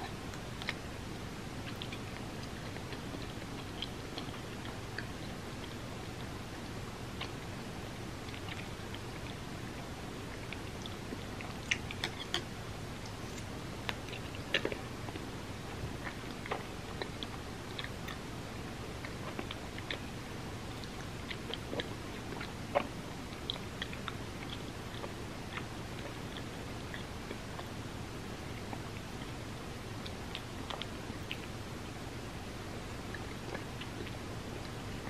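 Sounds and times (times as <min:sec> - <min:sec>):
close chewing with mouth clicks: 0:00.0 - 0:31.6, 0:32.9 - 0:35.0
steady low hum: 0:00.0 - 0:35.0.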